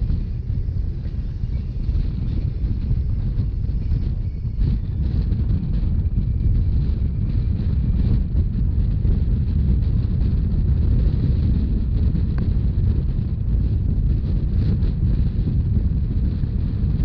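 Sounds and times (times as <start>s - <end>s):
train rumbling along track: 0.0s - 17.0s
wind buffeting microphone: 0.0s - 17.0s.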